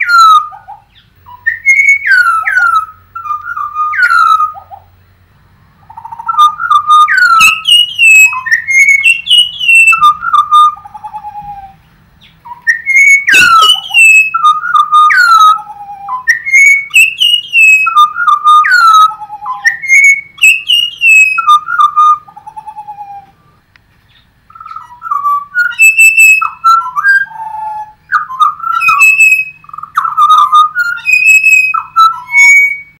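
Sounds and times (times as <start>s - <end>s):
bird singing whistled phrases: 0.0s - 4.8s, 5.9s - 23.4s, 24.1s - 33.0s.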